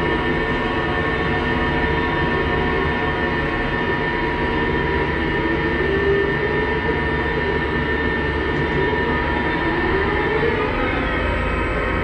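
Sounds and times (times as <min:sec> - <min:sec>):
crane machinery rumble: 0:00.0 - 0:12.0.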